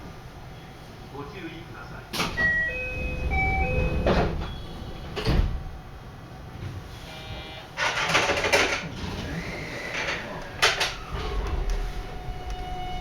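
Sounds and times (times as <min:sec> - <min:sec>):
train doors closing: 0:02.1 - 0:13.0.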